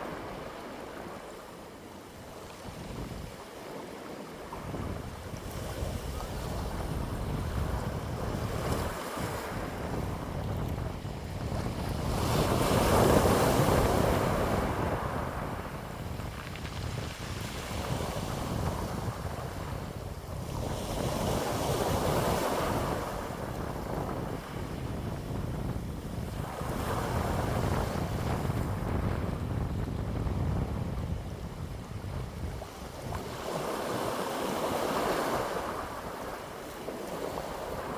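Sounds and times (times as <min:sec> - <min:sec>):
wind buffeting microphone: 0:00.0 - 0:37.9
wind gusts: 0:00.0 - 0:37.9.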